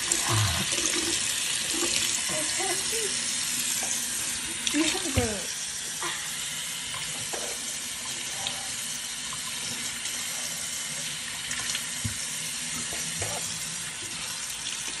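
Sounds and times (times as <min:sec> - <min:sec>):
faucet running into metal sink: 0:00.0 - 0:15.0.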